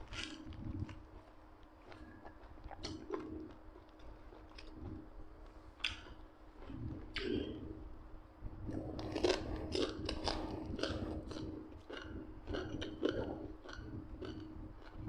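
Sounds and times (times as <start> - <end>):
person chewing and crunching: 0.0 - 7.7, 8.6 - 15.0.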